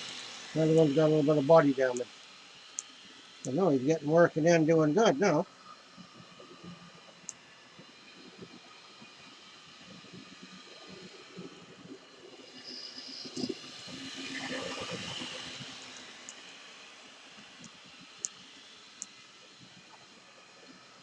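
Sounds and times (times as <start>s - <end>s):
model train whirring: 0.0s - 21.0s.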